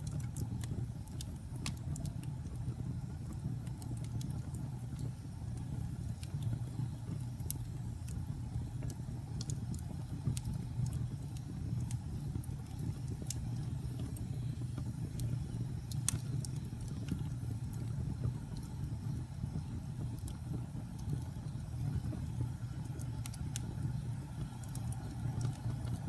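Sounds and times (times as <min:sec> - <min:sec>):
fire crackles and pops: 0:00.0 - 0:26.0
fire rumbling: 0:00.0 - 0:26.0.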